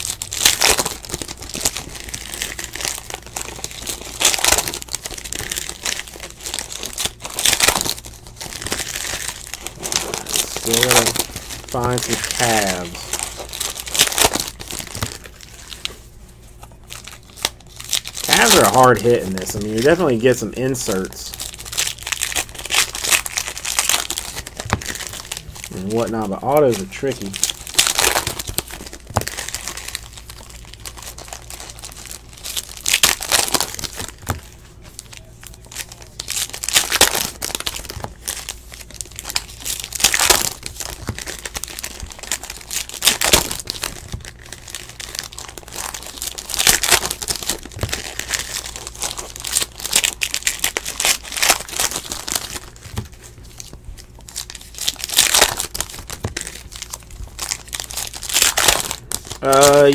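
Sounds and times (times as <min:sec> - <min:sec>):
foil wrappers crinkling and tearing: 0:00.0 - 0:59.9.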